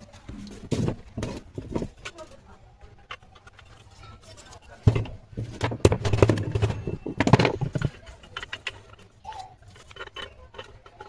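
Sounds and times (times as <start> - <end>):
tools and metal parts clattering: 0.0 - 11.0.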